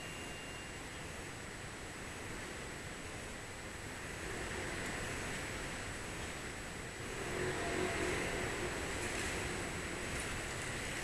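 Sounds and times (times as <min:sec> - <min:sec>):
faint high whine: 0:00.0 - 0:11.0
low rumble and hiss: 0:00.0 - 0:11.0.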